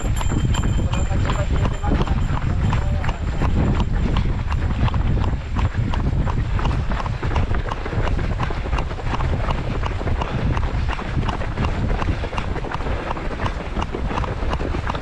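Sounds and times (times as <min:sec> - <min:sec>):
running footsteps on road: 0:00.0 - 0:15.0
wind buffeting microphone: 0:00.0 - 0:15.0.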